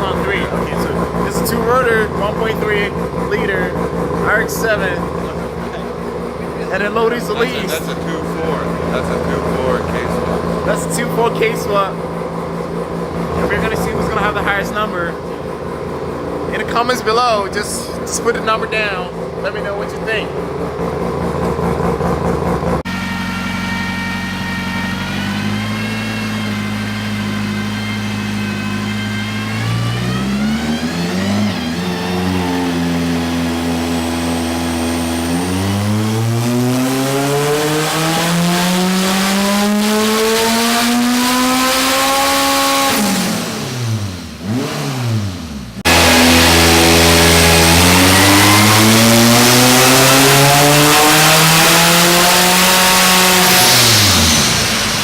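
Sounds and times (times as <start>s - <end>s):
turbocharged car engine revving: 0.0s - 55.0s.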